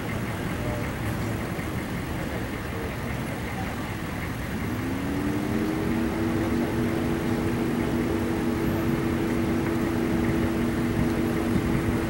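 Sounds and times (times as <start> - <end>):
road traffic rumble: 0.0 - 12.0
vehicle engine humming: 0.0 - 12.0.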